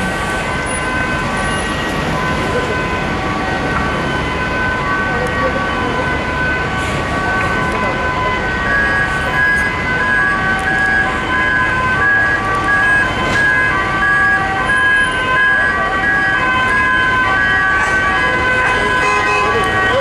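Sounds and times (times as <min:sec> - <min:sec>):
engine and traffic noise: 0:00.0 - 0:20.0
two-tone sirens: 0:00.0 - 0:20.0.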